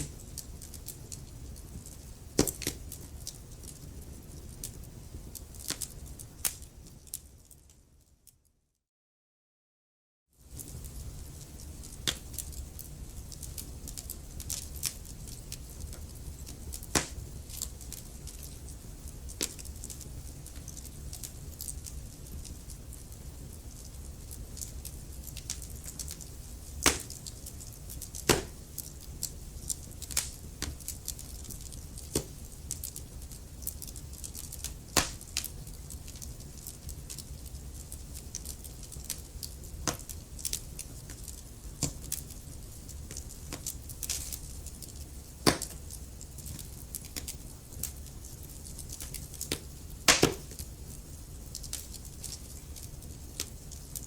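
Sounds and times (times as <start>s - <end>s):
wood fire crackling: 0.0s - 8.4s, 10.4s - 54.0s.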